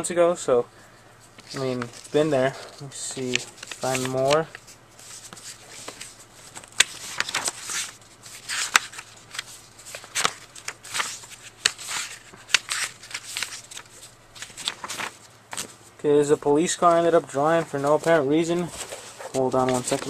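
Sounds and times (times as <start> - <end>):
paper pages turning and rustling: 1.3 - 15.9, 16.6 - 20.0.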